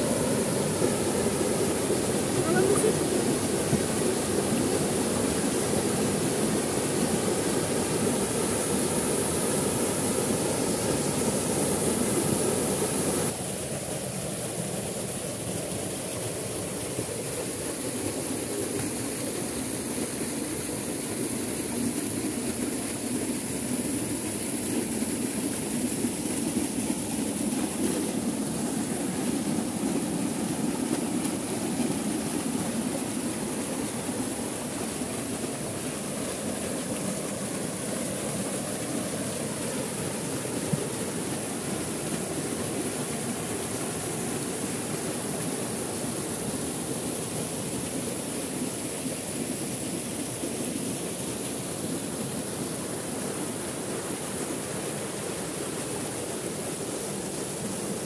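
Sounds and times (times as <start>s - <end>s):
waterfall splashing into pool: 0.0s - 58.0s.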